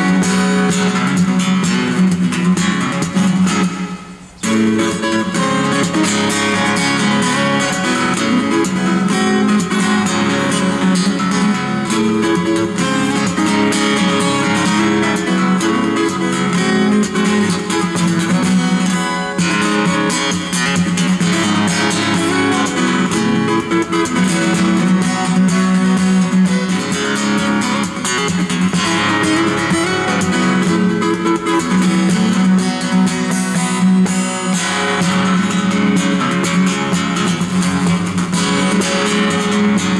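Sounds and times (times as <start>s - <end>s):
fingerstyle acoustic guitar: 0.0s - 39.9s.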